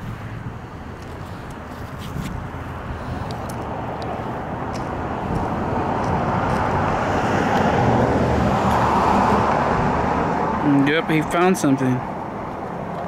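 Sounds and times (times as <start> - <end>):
motor vehicle approaching: 0.0 - 13.0.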